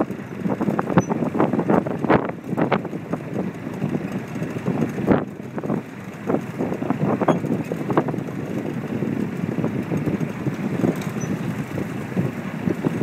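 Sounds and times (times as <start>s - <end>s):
water slapping hull: 0.0s - 13.0s
wind rush: 0.0s - 13.0s.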